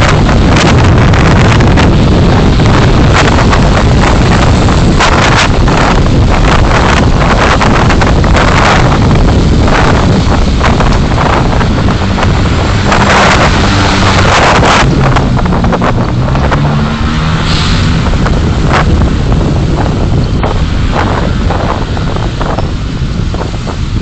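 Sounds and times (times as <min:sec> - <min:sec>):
faint engine drone: 0:00.0 - 0:23.5
car road and wind noise: 0:00.0 - 0:24.0
hissing surges: 0:01.5 - 0:22.5.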